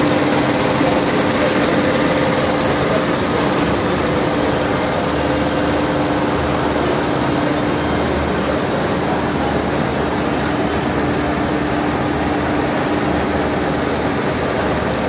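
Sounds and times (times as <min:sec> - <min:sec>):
knitting machine clattering: 0:00.0 - 0:15.0
machine hum: 0:00.0 - 0:15.0.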